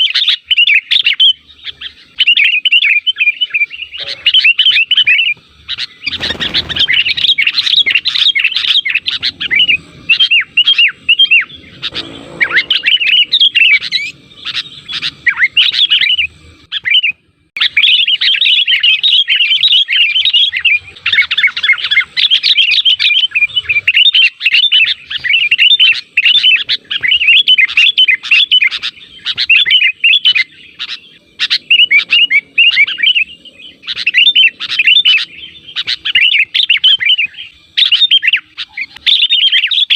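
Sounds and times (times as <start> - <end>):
bulbuls chirping and chattering: 0.0 - 39.9.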